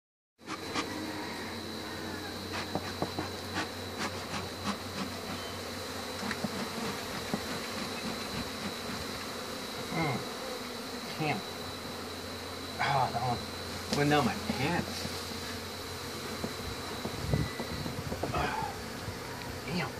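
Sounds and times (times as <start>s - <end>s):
bees buzzing: 0.4s - 19.9s.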